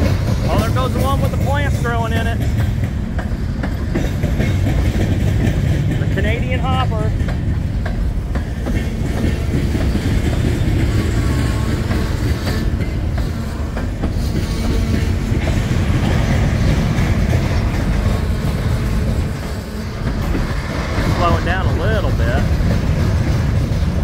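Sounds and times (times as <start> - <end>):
freight train wheels rumbling: 0.0 - 24.0
wheels clickety-clack: 0.0 - 24.0.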